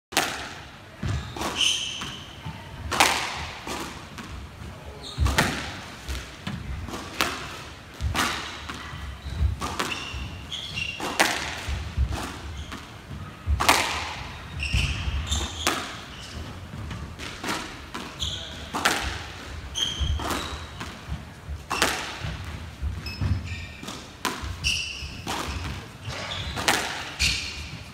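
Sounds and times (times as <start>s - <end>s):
squash ball racket strikes: 0.1s - 2.1s, 2.8s - 4.3s, 5.2s - 12.9s, 13.5s - 27.5s
shoes squeaking on wooden floor: 1.0s - 2.6s, 4.8s - 5.8s, 8.0s - 27.9s.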